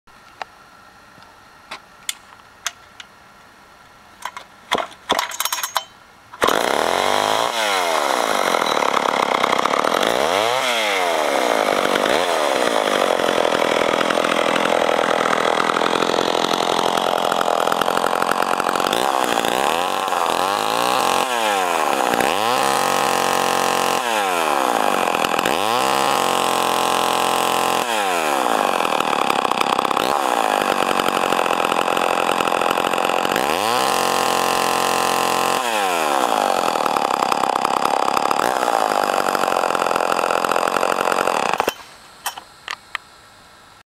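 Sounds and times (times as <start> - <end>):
chainsaw idling and revving: 6.4 - 41.9.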